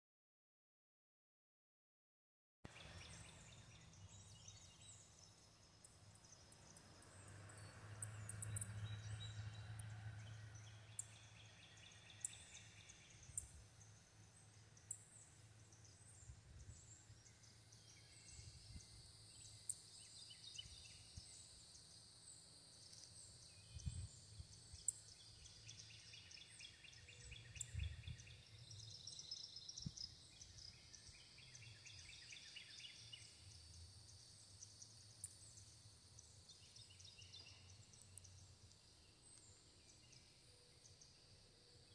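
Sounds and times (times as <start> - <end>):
high insect hum: 2.7 - 41.9.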